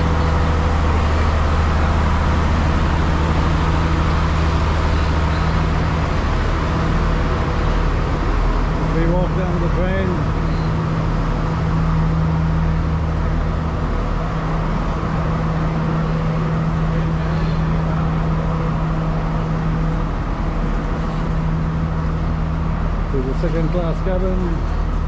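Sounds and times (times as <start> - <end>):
diesel train engine idling: 0.0 - 25.0.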